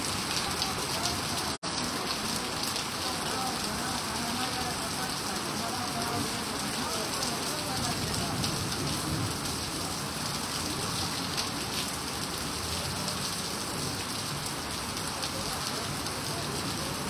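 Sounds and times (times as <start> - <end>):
heavy rain splashing into water: 0.0 - 17.0.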